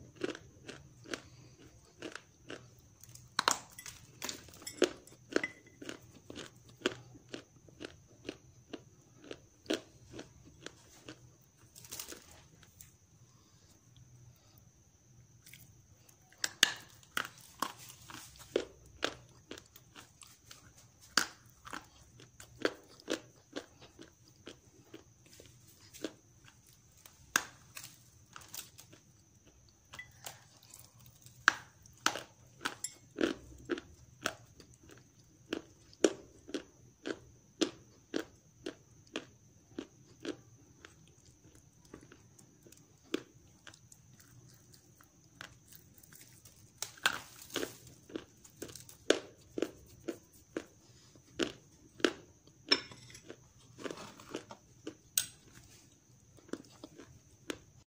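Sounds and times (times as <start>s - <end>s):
crunchy biting and chewing: 0.0s - 14.7s, 15.3s - 57.8s.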